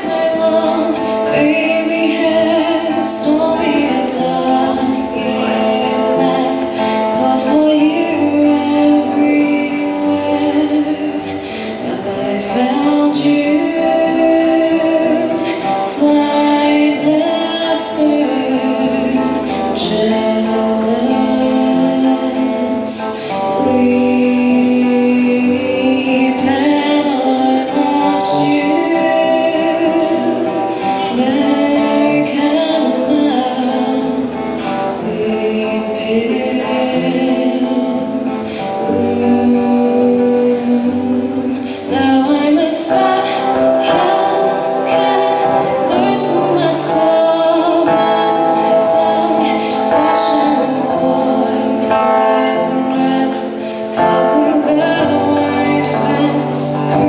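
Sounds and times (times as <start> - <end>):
voices singing in harmony: 0.0 - 57.0.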